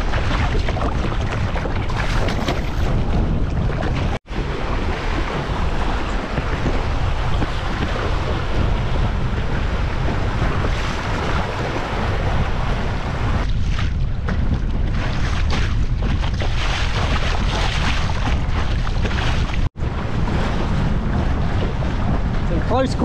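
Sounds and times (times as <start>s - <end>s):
choppy water slapping and splashing: 0.0s - 23.0s
wind buffeting microphone: 0.0s - 23.0s.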